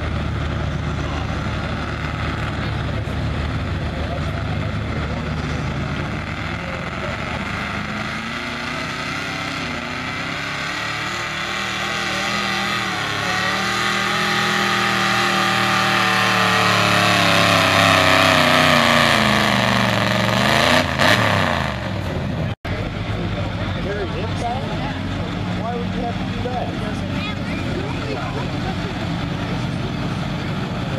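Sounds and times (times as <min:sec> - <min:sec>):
pickup engine at high revs: 0:00.0 - 0:30.9.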